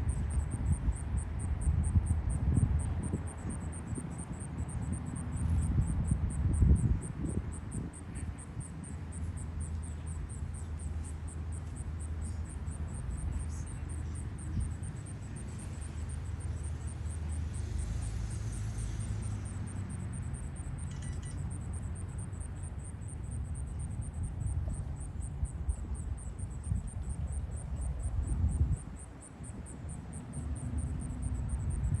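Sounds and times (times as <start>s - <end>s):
insects chirping: 0.0s - 32.0s.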